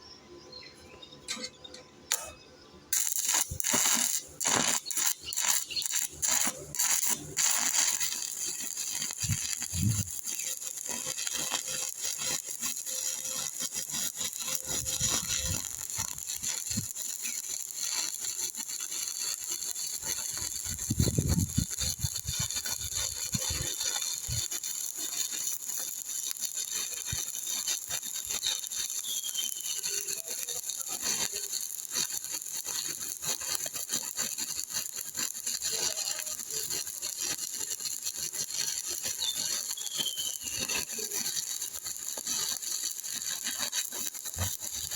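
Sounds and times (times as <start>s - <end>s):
welding arc crackling hiss: 1.2s - 44.9s.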